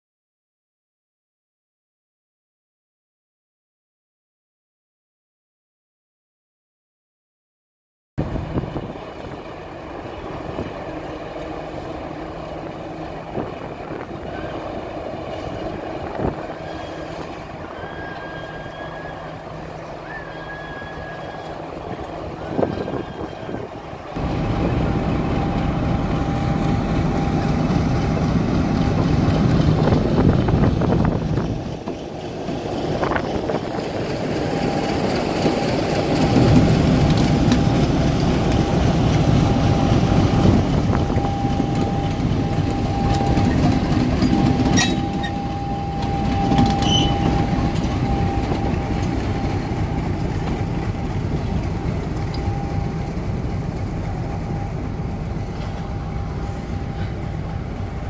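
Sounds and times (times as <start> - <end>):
diesel locomotive engine running: 8.2 - 58.0
steady whine: 8.2 - 58.0.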